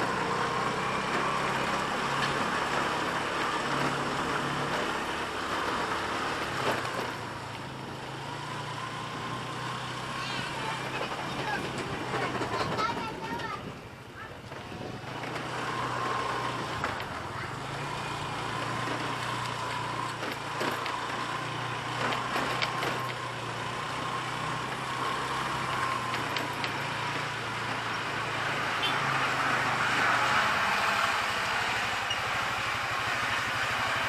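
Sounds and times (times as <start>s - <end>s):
motorcycle engine hum: 0.0s - 34.0s
road and traffic noise: 0.0s - 34.0s.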